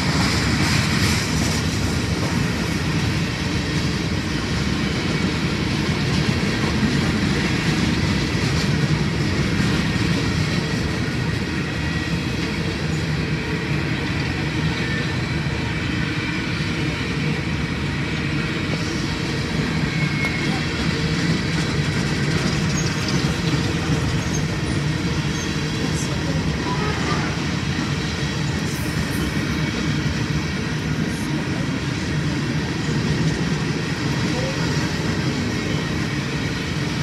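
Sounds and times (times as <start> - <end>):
steel wheels rumbling on rails: 0.0 - 37.0.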